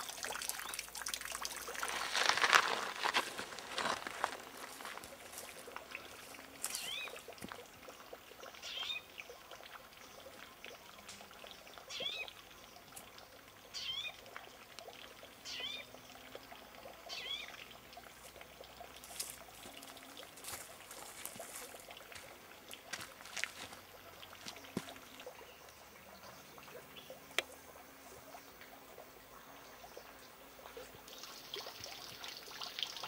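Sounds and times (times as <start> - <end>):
faint water sounds: 0.0 - 33.0.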